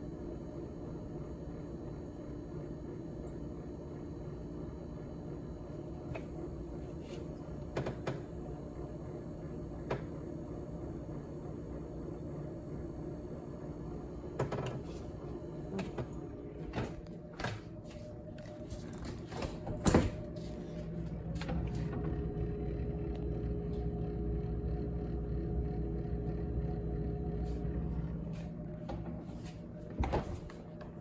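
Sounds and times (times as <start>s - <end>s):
refrigerator humming: 0.0s - 31.0s.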